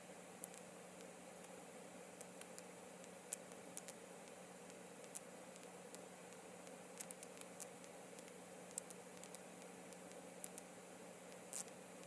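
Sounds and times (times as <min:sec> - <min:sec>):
faint steady hiss: 0:00.0 - 0:12.0
faint clicks and ticks: 0:00.4 - 0:10.7, 0:11.3 - 0:12.0.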